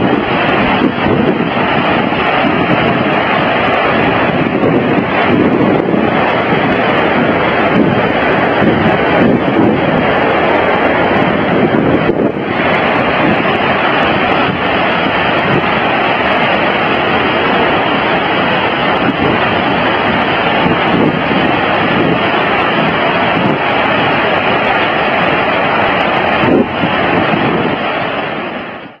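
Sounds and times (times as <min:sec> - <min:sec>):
floodwater rushing roar: 0:00.0 - 0:29.0.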